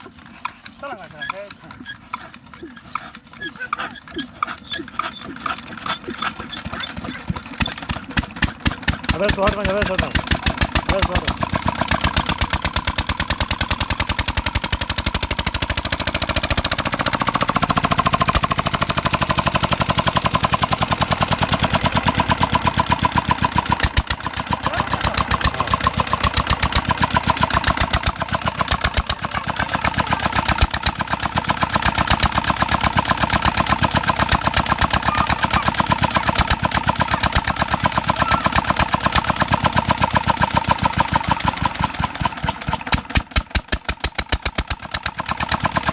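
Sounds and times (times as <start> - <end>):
stationary diesel engine running: 0.0 - 45.9.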